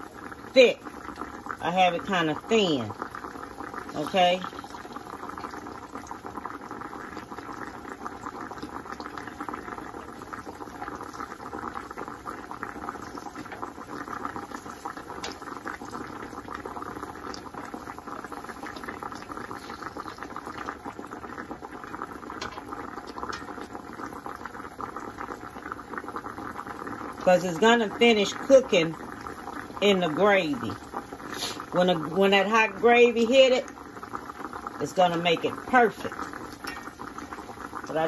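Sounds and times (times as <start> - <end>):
meat sizzling in a skillet: 3.0 - 27.3, 28.4 - 32.8, 33.6 - 38.0.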